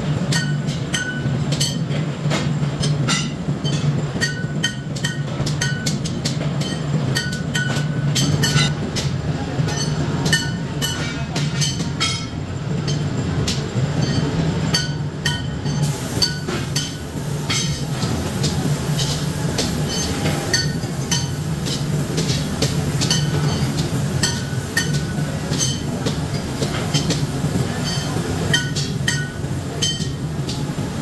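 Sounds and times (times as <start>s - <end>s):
workshop machinery humming: 0.0s - 31.0s.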